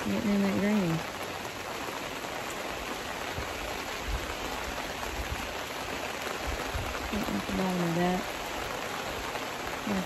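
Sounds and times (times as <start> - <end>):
rain falling on a canopy tent: 0.0 - 10.0.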